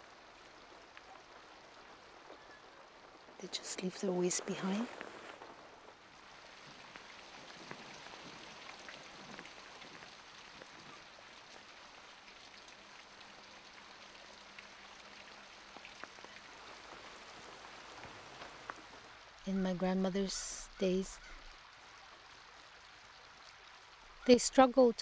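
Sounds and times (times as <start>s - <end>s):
raindrops ticking: 0.0s - 25.0s
soft steady rain: 0.0s - 25.0s.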